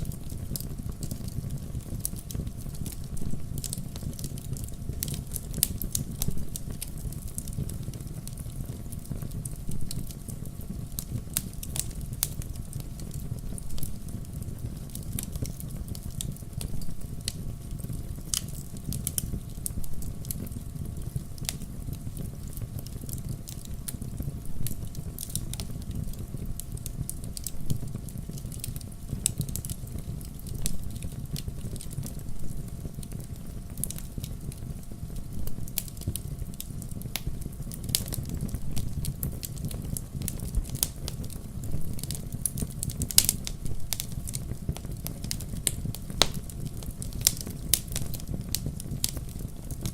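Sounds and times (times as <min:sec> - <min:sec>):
low rumble of flame: 0:00.0 - 0:49.9
wood fire crackling and popping: 0:00.0 - 0:49.9.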